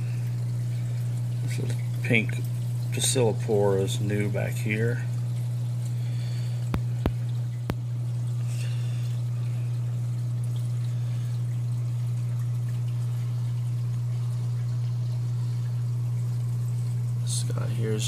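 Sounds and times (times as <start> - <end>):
pump hum: 0.0 - 18.0
water trickling and pouring: 0.0 - 18.0.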